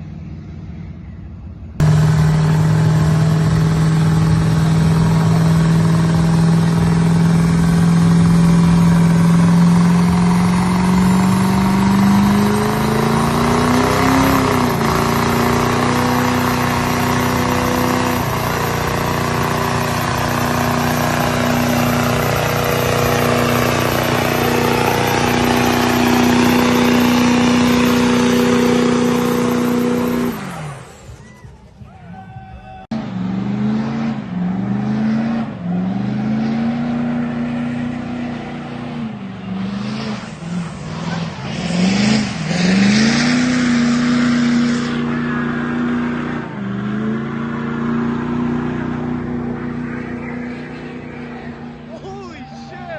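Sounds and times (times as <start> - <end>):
diesel engines revving: 0.0 - 52.9.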